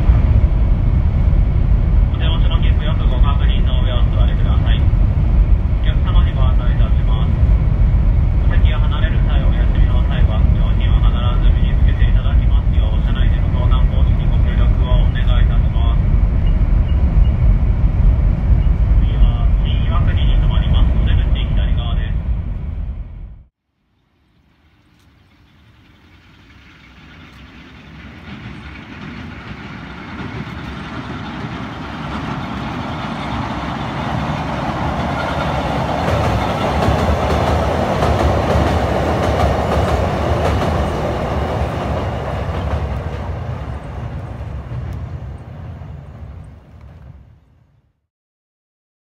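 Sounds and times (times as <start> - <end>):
electric train on steel bridge: 0.0 - 23.4, 24.4 - 47.8.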